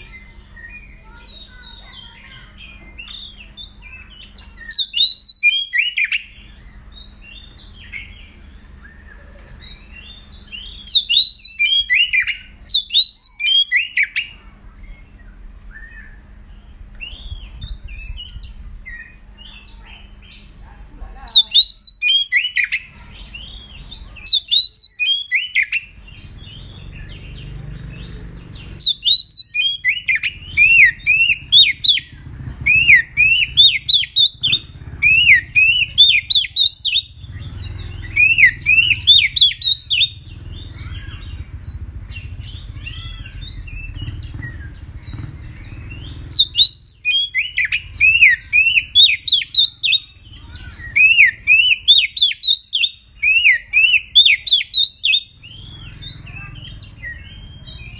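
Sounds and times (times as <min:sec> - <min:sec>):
bird singing whistled notes: 0:00.0 - 0:20.5, 0:21.2 - 0:57.9.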